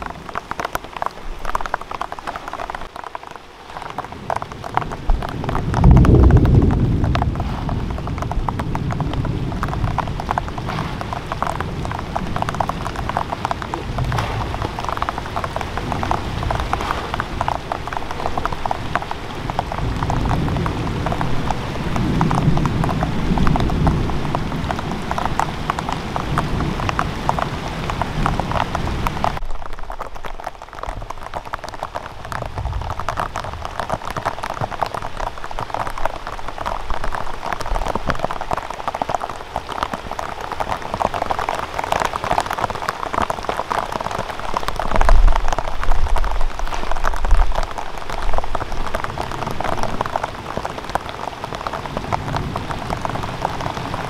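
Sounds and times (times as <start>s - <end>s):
rain pattering on pond and leaves: 0.0s - 54.0s.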